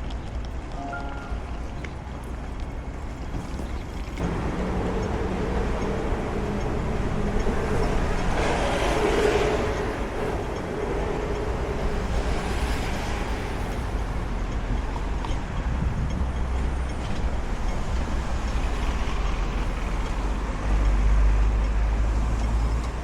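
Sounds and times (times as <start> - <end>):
vehicle hum: 0.0 - 23.0.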